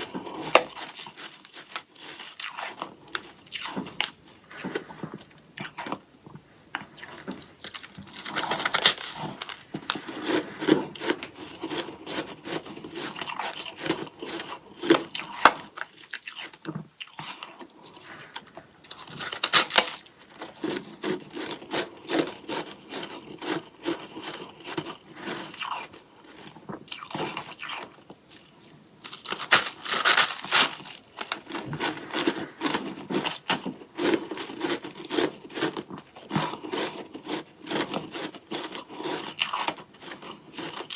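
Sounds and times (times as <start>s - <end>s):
crunching and chewing frost: 0.0s - 40.9s.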